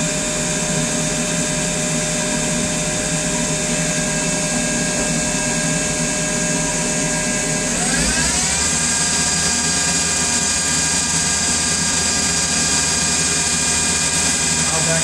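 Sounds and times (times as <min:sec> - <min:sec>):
lathe spindle whine: 0:00.0 - 0:15.0
machine hum: 0:00.0 - 0:15.0.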